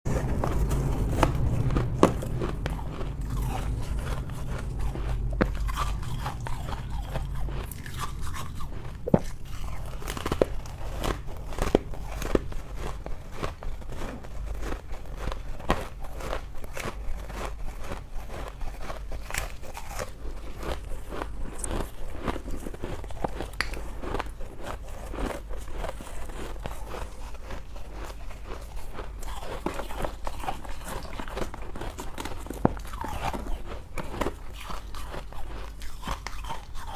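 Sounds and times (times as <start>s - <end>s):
low steady hum: 0.1s - 36.9s
person chewing ice crunches: 0.1s - 36.9s.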